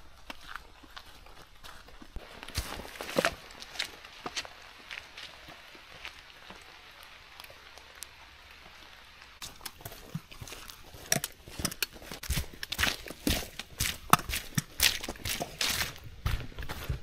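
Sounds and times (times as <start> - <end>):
footsteps: 0.0 - 6.7, 9.4 - 17.0.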